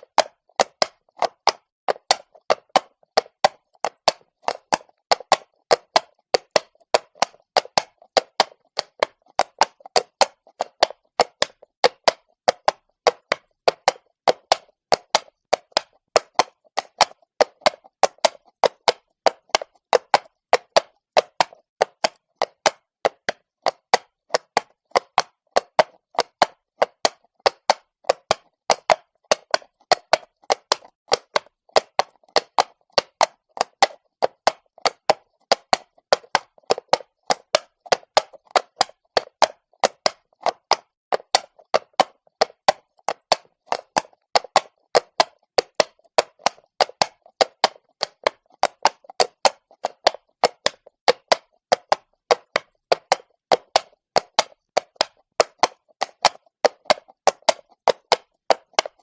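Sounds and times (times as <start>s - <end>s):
horse hooves on cobblestone: 0.0s - 59.0s.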